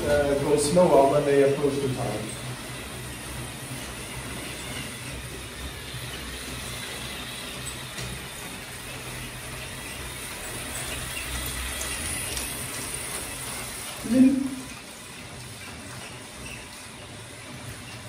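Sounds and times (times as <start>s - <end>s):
toy train wheels rattling: 0.0s - 17.2s
toy train motors humming: 0.0s - 18.0s.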